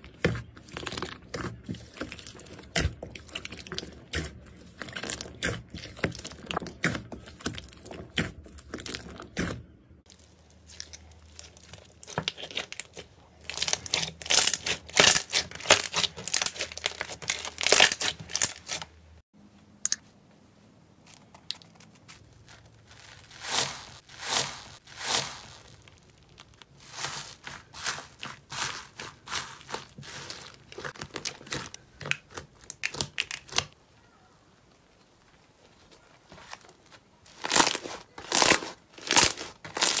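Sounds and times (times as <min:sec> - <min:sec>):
slime squishing: 0:00.0 - 0:19.0, 0:21.0 - 0:33.8, 0:35.1 - 0:40.0
crunchy slime crackling: 0:00.1 - 0:19.0, 0:21.0 - 0:33.8, 0:35.1 - 0:40.0.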